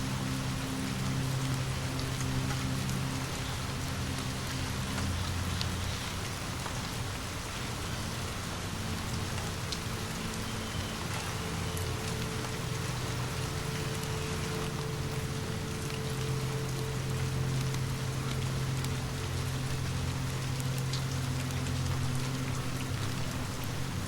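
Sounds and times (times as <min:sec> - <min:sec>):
low steady drone: 0:00.0 - 0:24.0
steady rain falling: 0:00.0 - 0:24.0.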